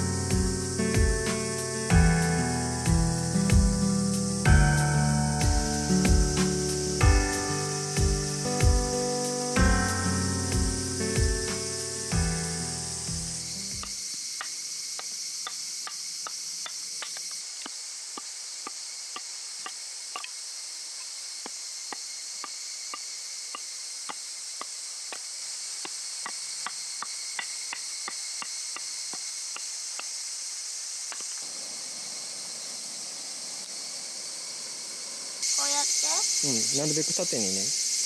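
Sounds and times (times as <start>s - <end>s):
insects chorus: 0.0s - 38.0s.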